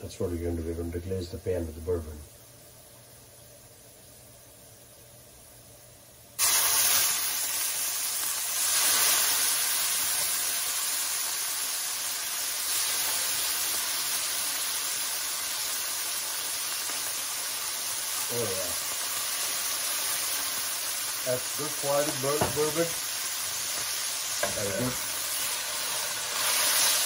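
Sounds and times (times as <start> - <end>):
oil sizzling in a skillet: 0.6 - 27.0.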